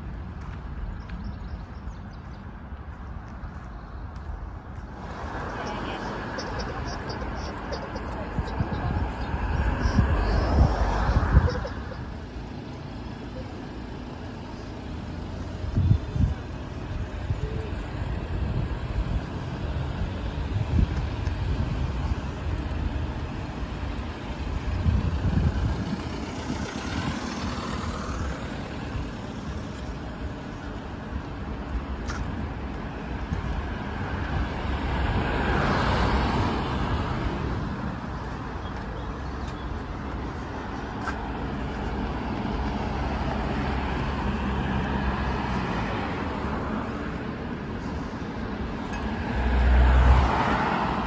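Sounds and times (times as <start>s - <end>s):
cars driving past: 0.0s - 51.0s.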